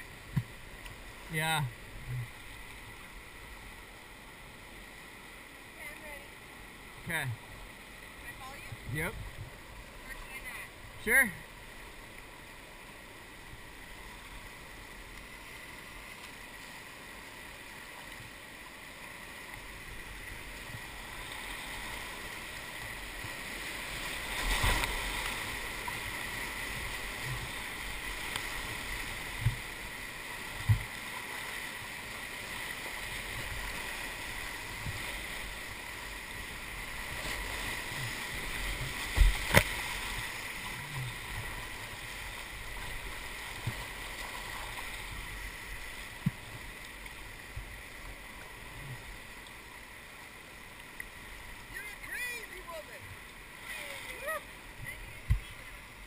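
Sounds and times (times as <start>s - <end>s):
water and paddle thumping boat: 0.0s - 4.8s, 7.0s - 12.2s, 13.3s - 56.0s
whitewater rushing: 0.0s - 56.0s.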